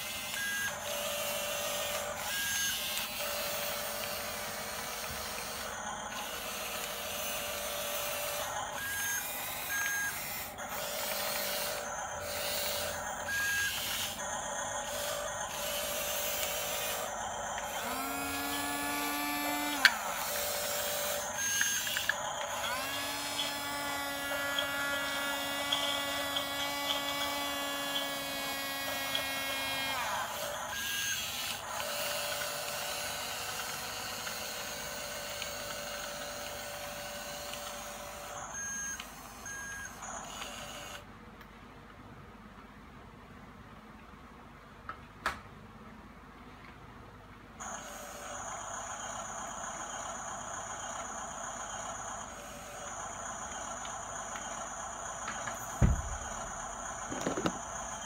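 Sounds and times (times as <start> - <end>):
small electric motors whining: 0.0 - 41.1, 47.6 - 58.0.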